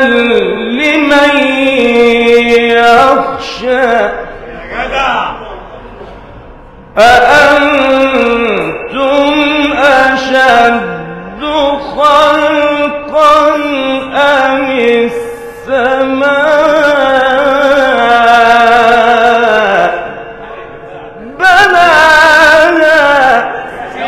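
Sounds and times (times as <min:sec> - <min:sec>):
man chanting melodically: 0:00.0 - 0:06.0, 0:06.9 - 0:24.0.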